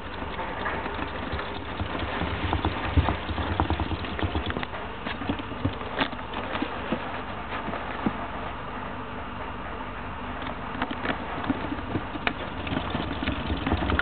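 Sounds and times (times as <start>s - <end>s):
hamster scrabbling on paper: 0.0s - 8.2s, 10.8s - 14.0s.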